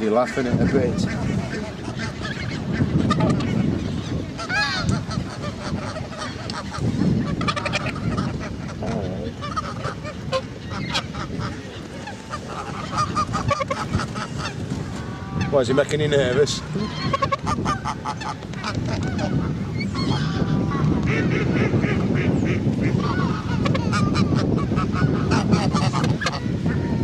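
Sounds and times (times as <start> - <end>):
geese honking: 0.1 - 27.0.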